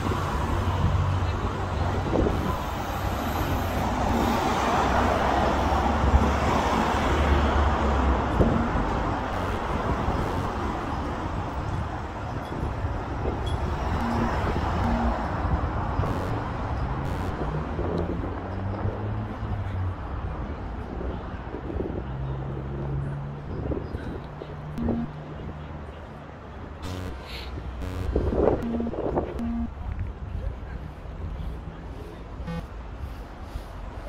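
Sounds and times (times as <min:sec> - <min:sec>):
cars passing: 0:00.0 - 0:34.0.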